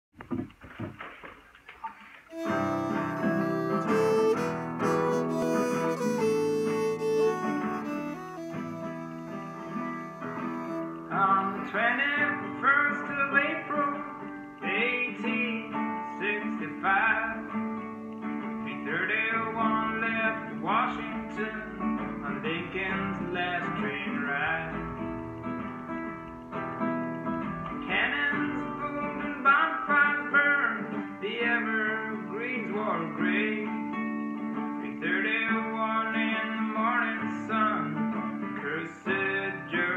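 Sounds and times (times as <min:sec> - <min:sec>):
man singing folk song: 0:02.3 - 0:25.2, 0:27.4 - 0:39.9
classical guitar strumming: 0:02.3 - 0:39.9.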